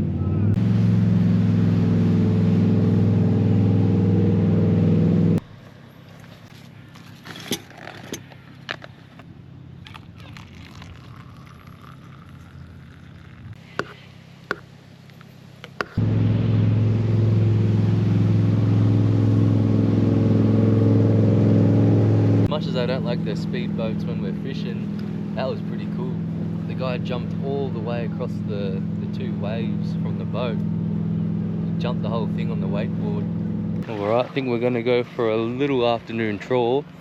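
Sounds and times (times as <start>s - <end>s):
motorboat engine running: 0.0s - 5.4s, 9.6s - 13.9s, 15.8s - 37.0s.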